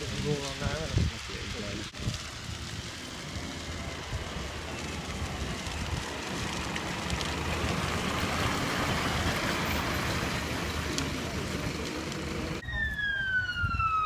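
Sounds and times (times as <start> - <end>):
faint fire crackles: 0.0 - 14.0
fire rushing noise: 0.0 - 14.0.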